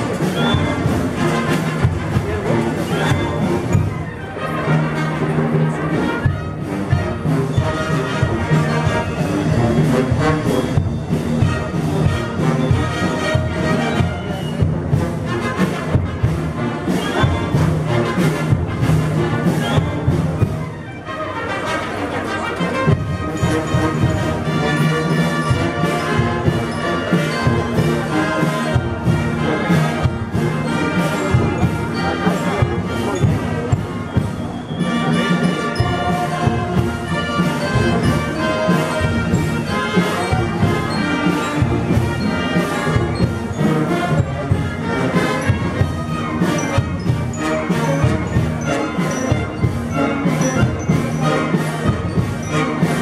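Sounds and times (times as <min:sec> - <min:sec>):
steady drum beat: 0:00.0 - 0:04.2, 0:05.2 - 0:20.8, 0:22.8 - 0:53.0
brass band chords: 0:00.0 - 0:53.0.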